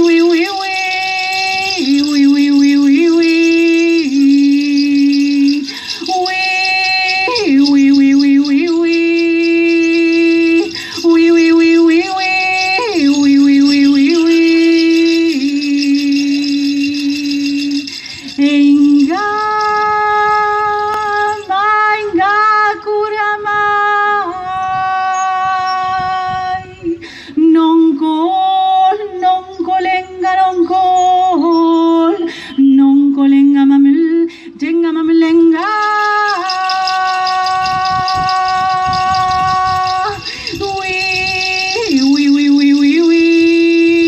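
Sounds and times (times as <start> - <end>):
woman singing wordlessly: 0.0 - 44.0.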